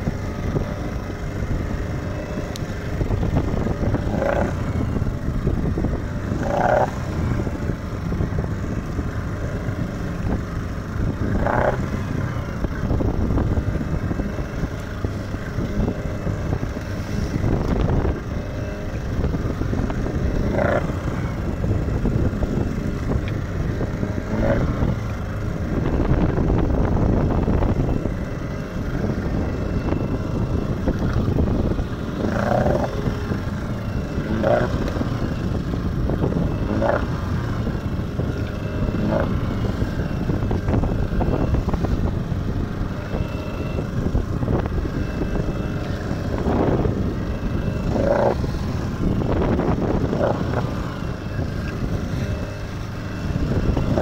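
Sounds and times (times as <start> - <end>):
boat engine running: 0.0 - 54.0
wind: 0.0 - 54.0.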